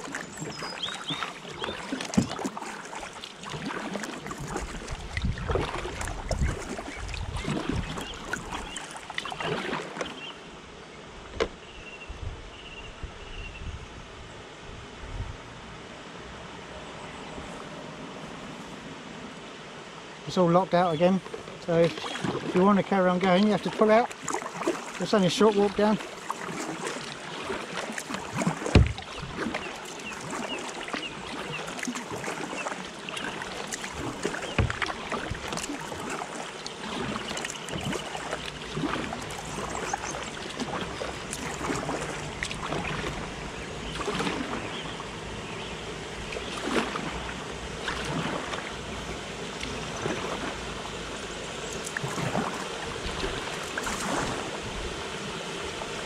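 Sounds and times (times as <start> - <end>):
paddle strokes splashing: 0.0 - 10.4, 20.4 - 56.0.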